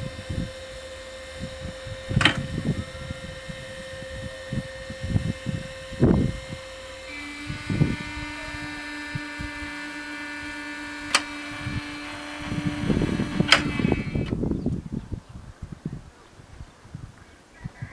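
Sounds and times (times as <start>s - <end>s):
wind noise: 0.0s - 0.6s, 1.3s - 17.9s
low motor hum: 0.0s - 15.2s.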